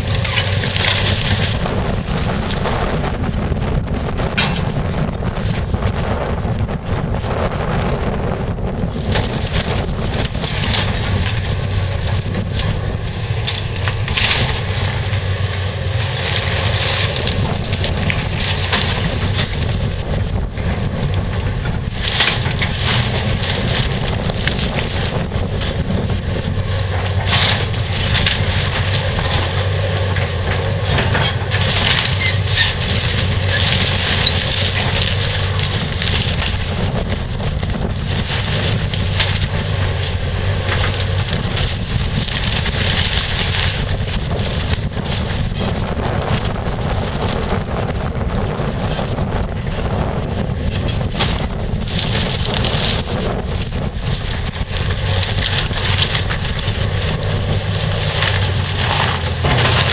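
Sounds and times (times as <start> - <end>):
debris crashing down: 0.0 - 49.2, 49.9 - 59.9
excavator diesel engine running: 0.0 - 59.9
timber cracking and splintering: 0.0 - 59.9.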